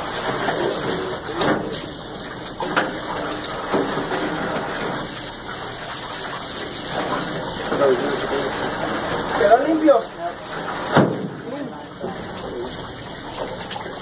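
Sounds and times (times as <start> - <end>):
water running from pipe and splashing: 0.0 - 14.0.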